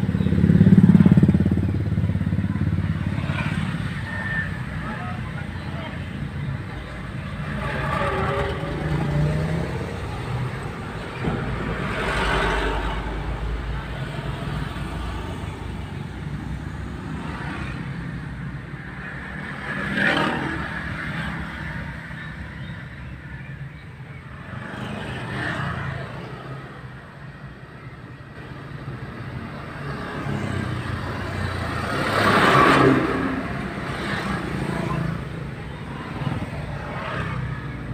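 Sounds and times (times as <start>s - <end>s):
car engine and road noise: 0.0s - 37.9s
vehicles passing: 0.0s - 37.9s.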